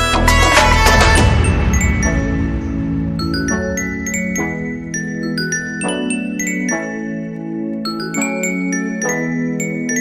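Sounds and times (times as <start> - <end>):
glockenspiel music: 0.3 - 10.0.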